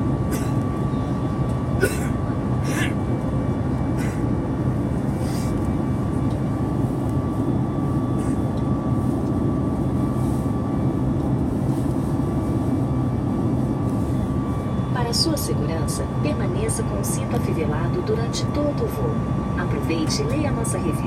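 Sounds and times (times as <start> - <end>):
drone of engines and airflow: 0.0 - 21.0
low hum: 0.0 - 21.0.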